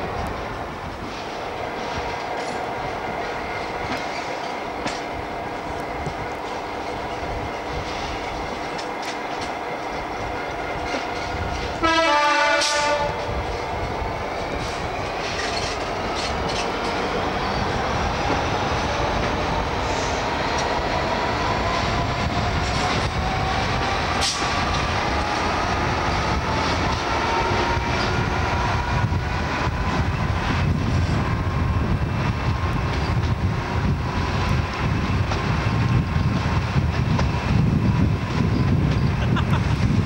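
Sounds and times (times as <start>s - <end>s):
train engine and wheels roaring: 0.0s - 40.0s.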